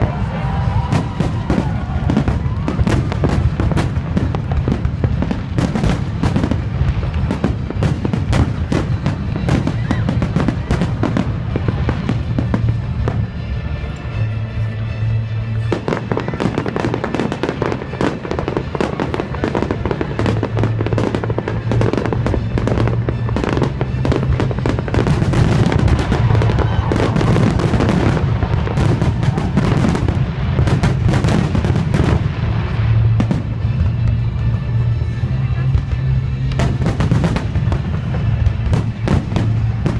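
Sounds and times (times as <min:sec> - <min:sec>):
fireworks bangs and crackles: 0:00.0 - 0:39.9
music playing: 0:00.0 - 0:39.9.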